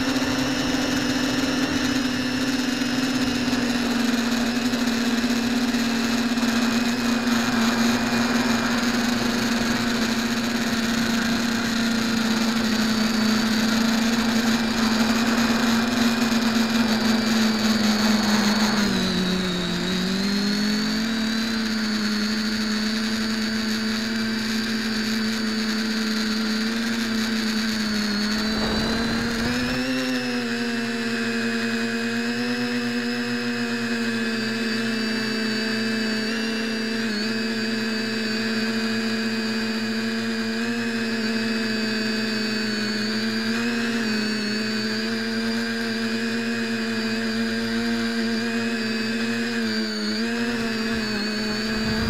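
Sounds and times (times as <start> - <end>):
drone motors whining: 0.0 - 52.0.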